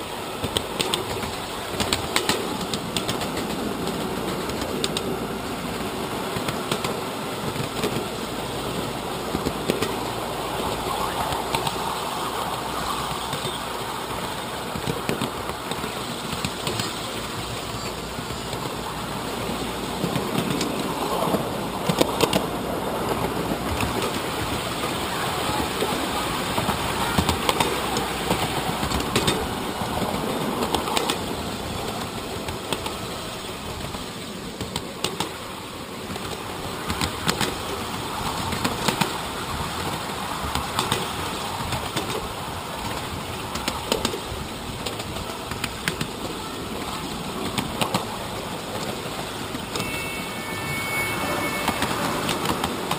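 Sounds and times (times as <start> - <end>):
wheels clicking over rail joints: 0.0 - 50.3, 51.2 - 52.9
miniature train rumbling and rattling: 0.0 - 52.9.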